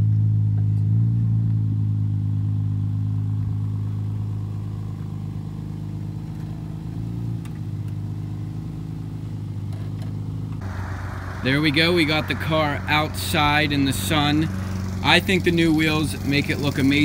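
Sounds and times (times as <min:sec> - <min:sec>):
car engine running: 0:01.5 - 0:17.0.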